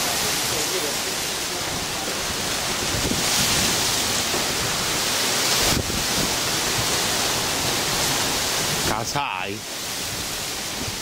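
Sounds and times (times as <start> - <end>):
wind buffeting microphone: 1.3 - 9.0, 9.7 - 11.0.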